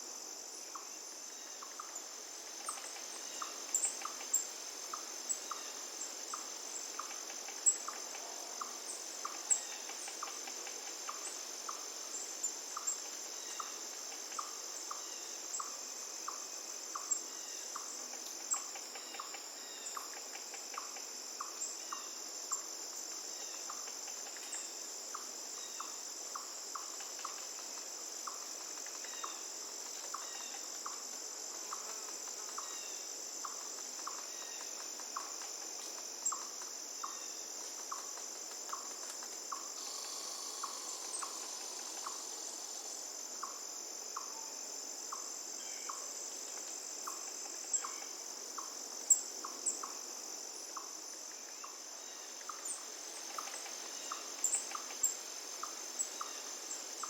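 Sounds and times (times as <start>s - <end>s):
insects trilling: 0.0s - 57.0s
short insect chirps: 0.6s - 57.0s.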